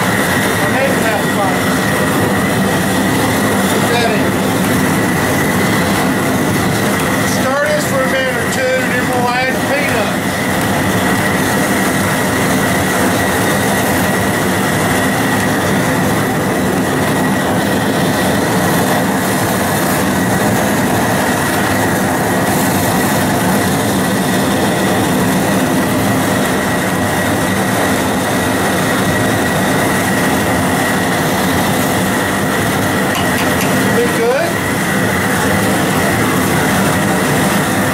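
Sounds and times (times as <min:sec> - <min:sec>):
gas burner roaring: 0:00.0 - 0:37.9.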